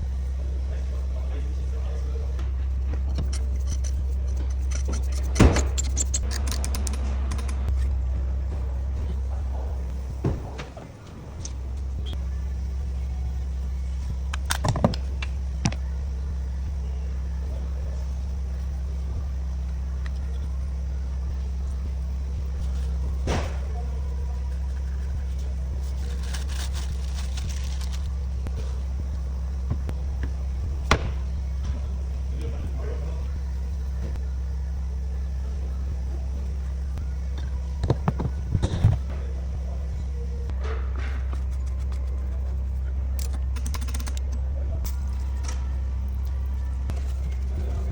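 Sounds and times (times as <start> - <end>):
diesel truck engine idling: 0.0 - 47.9
low mechanical hum: 0.0 - 47.9.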